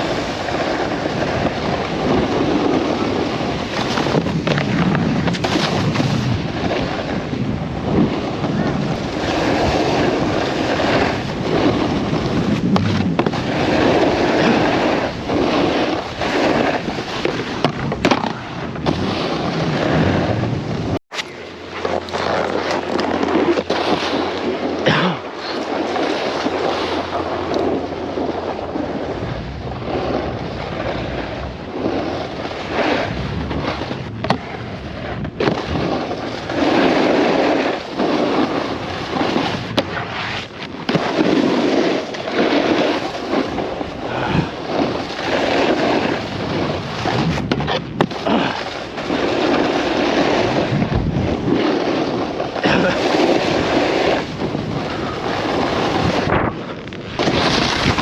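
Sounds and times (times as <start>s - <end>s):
snowboard scraping on snow: 0.0s - 58.0s
wind rushing over microphone: 0.0s - 58.0s.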